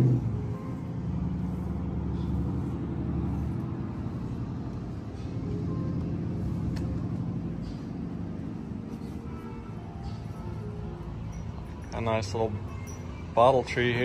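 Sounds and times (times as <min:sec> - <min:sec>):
road traffic noise: 0:00.0 - 0:14.0
vehicle engine droning: 0:00.0 - 0:14.0.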